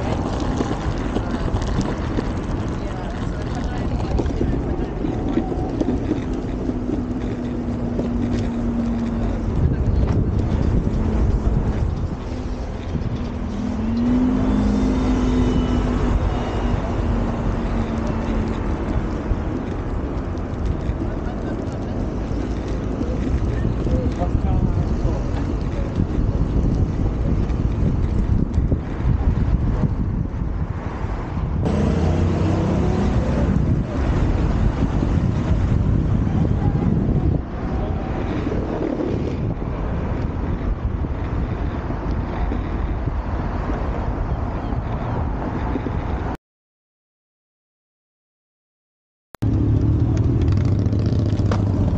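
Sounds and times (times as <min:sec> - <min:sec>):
roller skates rolling on tarmac: 0:00.0 - 0:46.4, 0:49.4 - 0:51.9
wind on microphone: 0:00.0 - 0:46.4.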